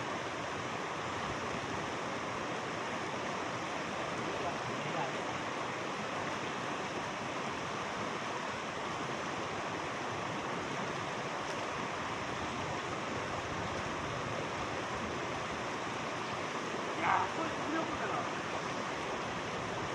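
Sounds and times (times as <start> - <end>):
mountain stream flowing: 0.0 - 19.9.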